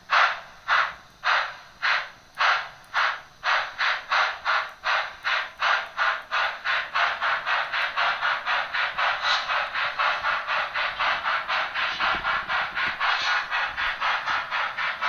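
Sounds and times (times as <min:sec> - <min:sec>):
model train steam chuffs: 0:00.0 - 0:15.0.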